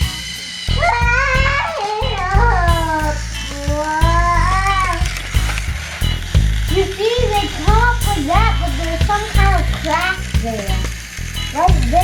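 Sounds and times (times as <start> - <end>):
music with pulsing bass beat: 0.0 - 12.0.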